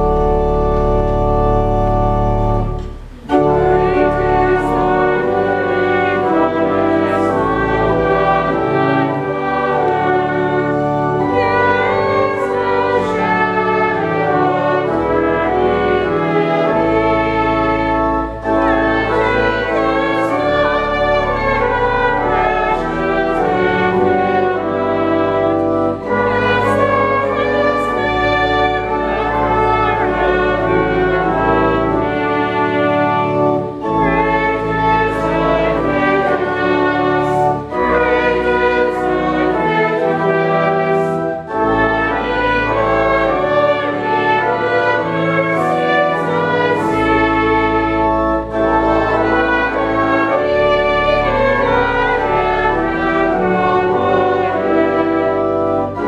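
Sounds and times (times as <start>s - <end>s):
church organ chords: 0.0s - 56.0s.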